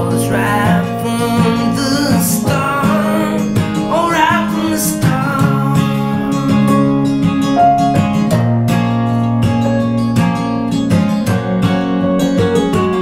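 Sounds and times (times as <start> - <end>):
acoustic guitar strumming: 0.0 - 13.0
keyboard accompaniment: 0.0 - 13.0.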